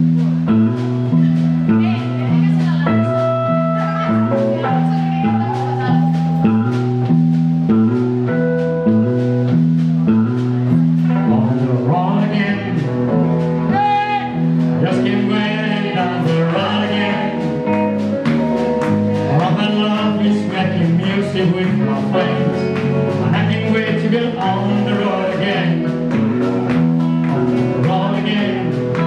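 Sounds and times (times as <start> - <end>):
bass line: 0.0 - 29.0
drums: 0.0 - 29.0
person singing: 1.1 - 7.1, 10.2 - 18.0, 19.1 - 29.0.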